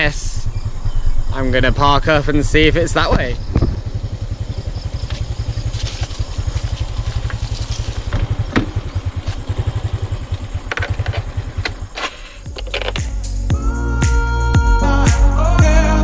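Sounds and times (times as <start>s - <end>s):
moped engine idling: 2.7s - 16.0s.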